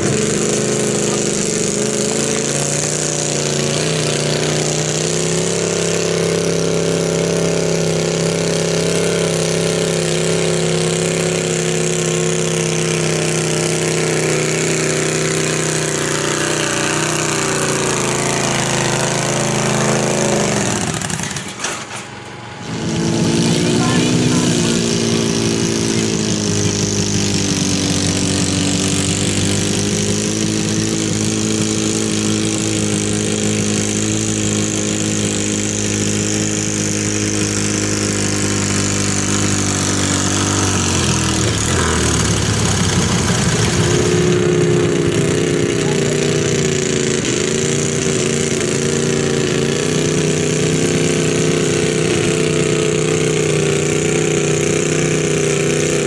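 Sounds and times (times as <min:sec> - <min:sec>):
garden tractor engine under load: 0:00.0 - 0:56.0
higher-pitched tractor engine: 0:00.0 - 0:56.0.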